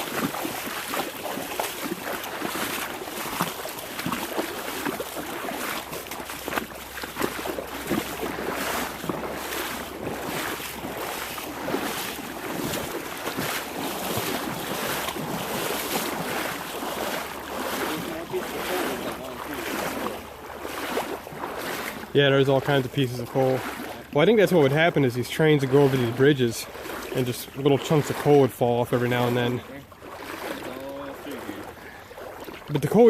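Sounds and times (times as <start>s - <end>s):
creek water splashing: 0.0s - 33.0s.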